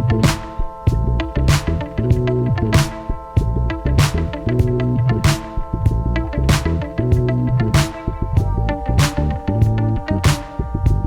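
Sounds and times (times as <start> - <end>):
instrumental music with drums and bass: 0.0 - 11.0.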